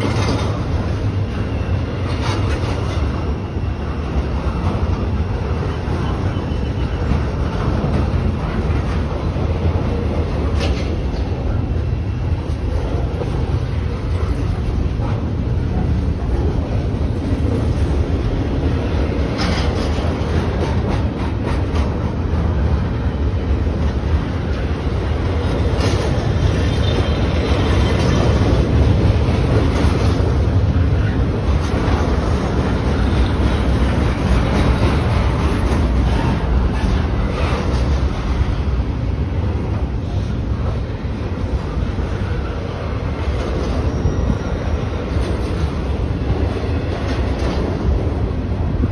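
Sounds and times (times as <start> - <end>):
freight train wheels rumbling: 0.0 - 48.9
sharp clacks of train wheels: 0.0 - 48.9.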